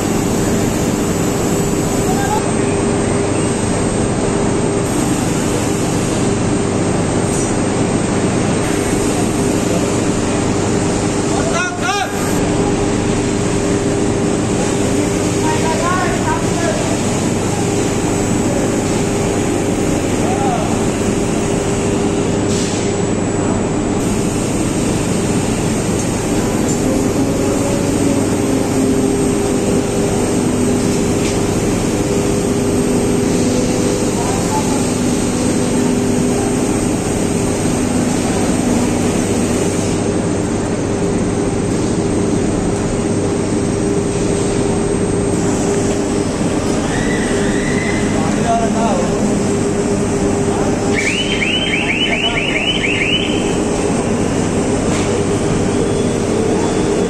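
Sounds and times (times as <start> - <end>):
loud industrial furnace din: 0.0 - 57.0.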